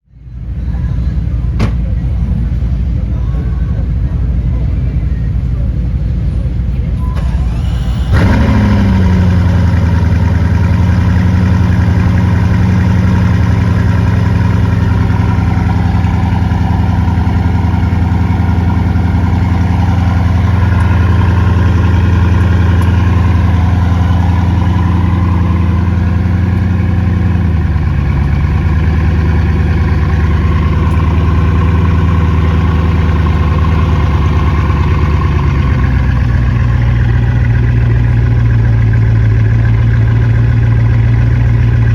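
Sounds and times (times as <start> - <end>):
car engine fast idle: 6.1 - 41.9.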